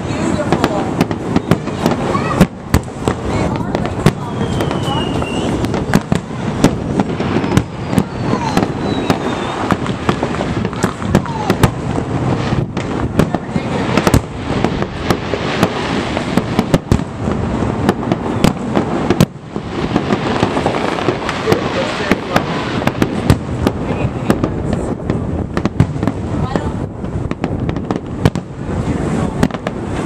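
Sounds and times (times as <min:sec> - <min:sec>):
firework shells bursting: 0:00.0 - 0:30.0.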